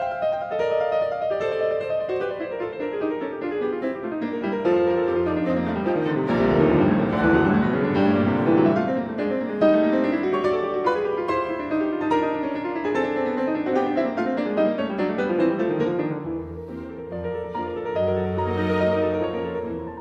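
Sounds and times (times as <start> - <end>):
classical piano music: 0.0 - 20.0.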